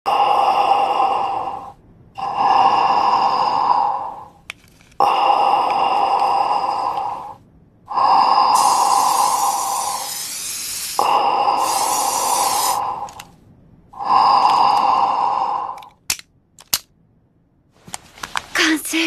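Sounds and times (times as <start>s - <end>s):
breathing through respirator mask: 0.1s - 13.4s, 14.0s - 16.0s.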